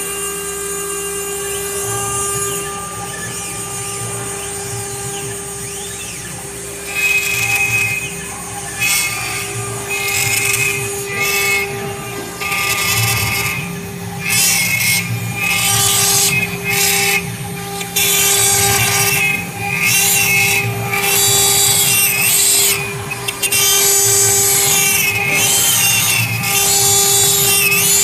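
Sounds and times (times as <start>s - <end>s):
machine axes whining: 0.0s - 28.0s
router spindle whining: 0.0s - 28.0s
cutting bit rasping wood: 0.8s - 28.0s.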